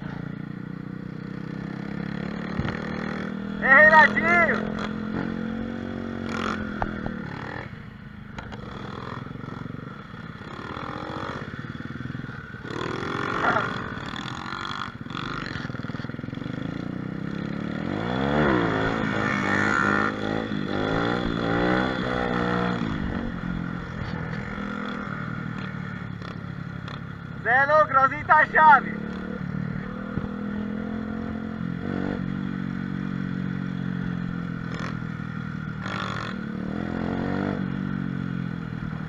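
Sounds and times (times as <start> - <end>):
mini motorcycle engine revving: 0.0 - 39.0.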